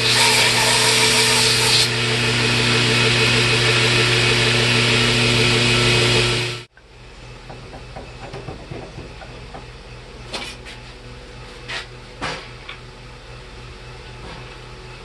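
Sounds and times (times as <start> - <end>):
electrical hum of machinery: 0.0 - 15.0.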